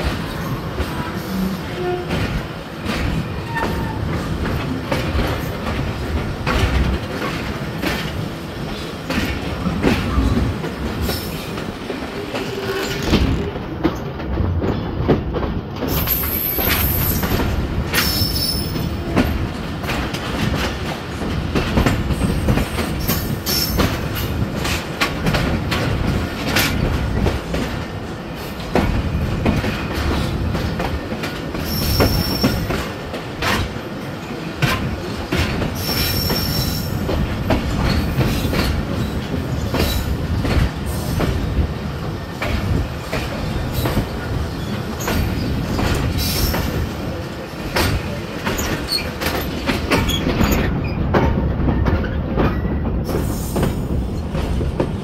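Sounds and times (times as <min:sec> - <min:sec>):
train wheels rumbling on rails: 0:00.0 - 0:55.0
clicks and clanks over rail joints: 0:01.8 - 0:41.4, 0:42.3 - 0:55.0.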